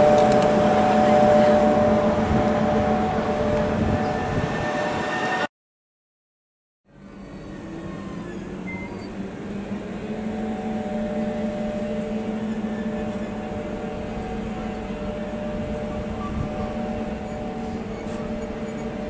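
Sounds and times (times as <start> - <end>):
train mechanical hum: 0.0 - 5.4, 6.9 - 19.0.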